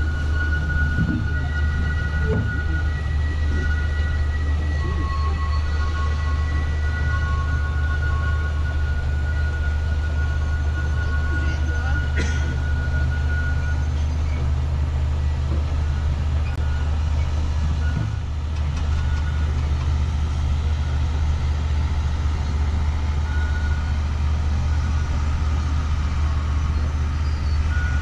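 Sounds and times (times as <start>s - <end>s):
train rumbling along track: 0.0s - 28.0s.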